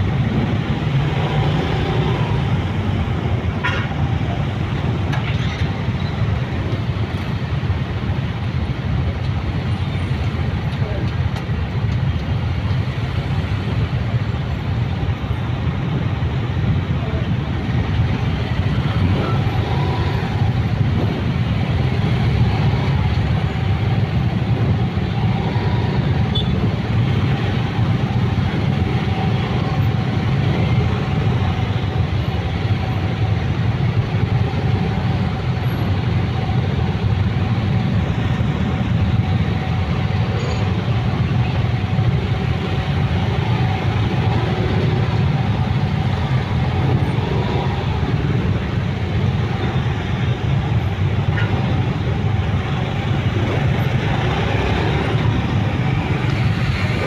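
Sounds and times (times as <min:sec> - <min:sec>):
motorcycle and car engines rumbling: 0:00.0 - 0:57.0.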